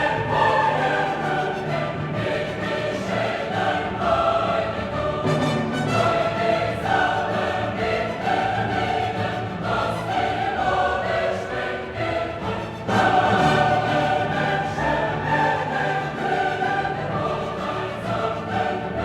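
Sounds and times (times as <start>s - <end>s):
choir singing: 0.0s - 19.0s
orchestral accompaniment: 0.0s - 19.0s.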